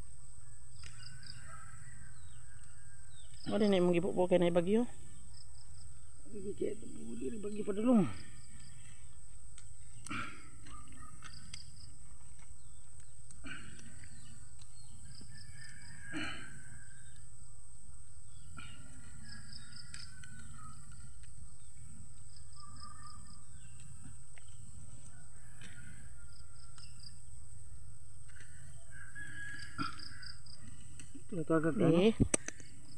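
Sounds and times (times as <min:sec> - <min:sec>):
birds chirping: 0:00.7 - 0:17.3, 0:18.0 - 0:27.4, 0:28.1 - 0:32.9.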